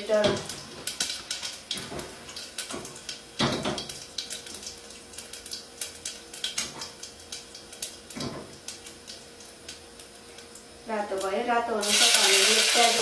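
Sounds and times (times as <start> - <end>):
spices crackling in hot oil: 0.0 - 13.0.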